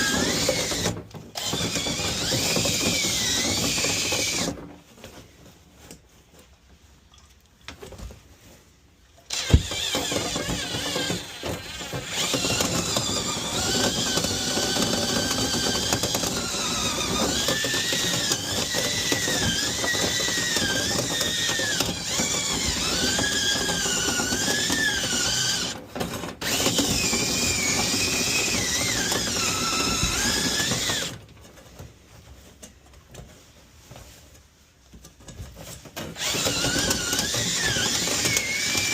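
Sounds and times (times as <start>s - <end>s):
power drill spinning brush: 0.0s - 6.0s, 9.3s - 32.7s, 35.5s - 38.9s.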